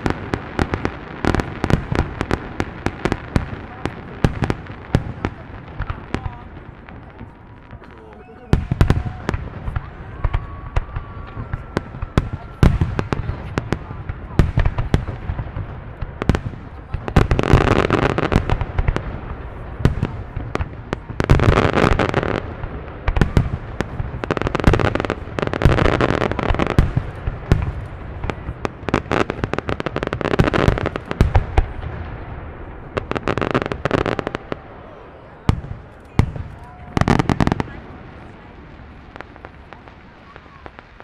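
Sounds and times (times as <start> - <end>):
fireworks booming: 0.0 - 41.0
fireworks crackling: 0.0 - 41.0.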